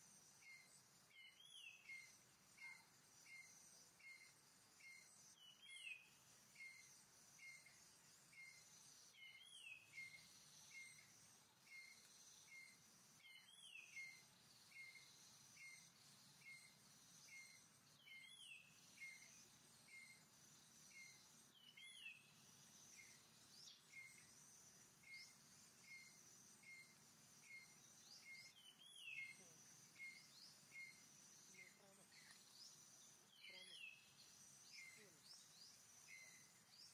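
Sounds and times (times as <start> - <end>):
insects humming: 0.0 - 36.9.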